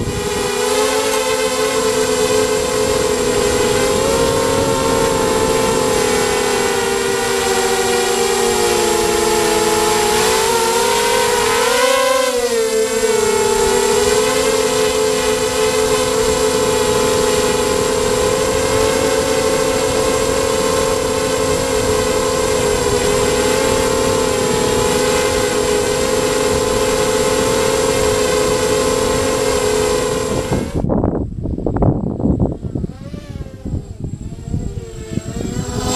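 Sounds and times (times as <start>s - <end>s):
drone motors whining: 0.0s - 35.9s.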